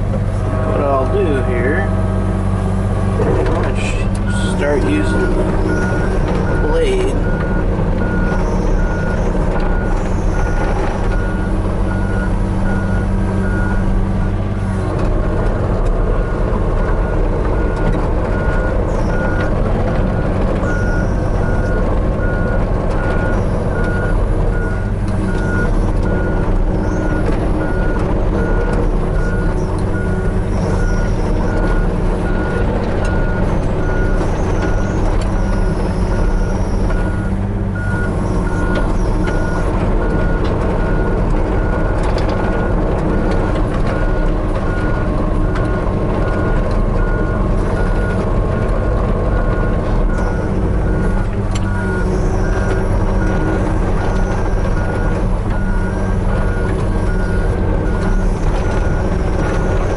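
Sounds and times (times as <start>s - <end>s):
excavator diesel engine running: 0.0s - 59.9s
travel alarm beeping: 4.2s - 14.4s, 20.1s - 48.2s, 49.3s - 59.9s.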